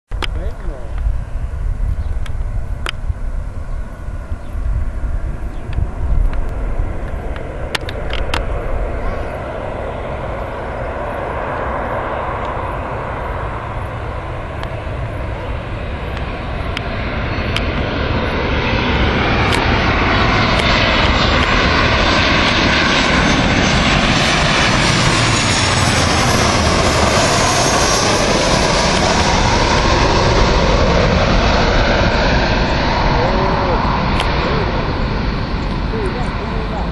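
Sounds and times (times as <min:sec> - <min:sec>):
jet engines flying past: 0:00.1 - 0:36.9
engine whine sliding lower: 0:00.2 - 0:36.9.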